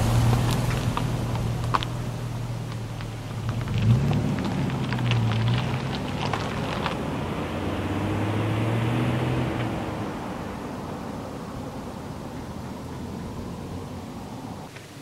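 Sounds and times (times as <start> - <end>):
pickup engine accelerating: 0.0 - 14.7
gravel crackling under tyres: 0.0 - 15.0.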